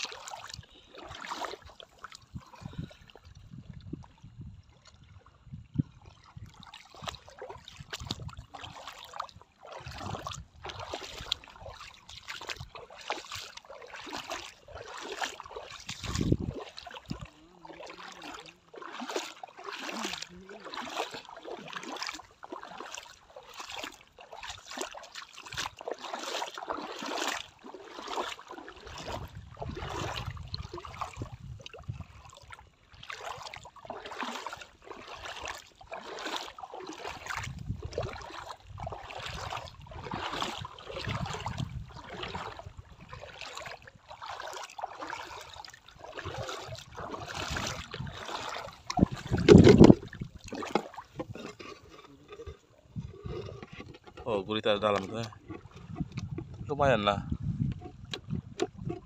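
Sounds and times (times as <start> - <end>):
wading splashes in shallow water: 0.0 - 59.0.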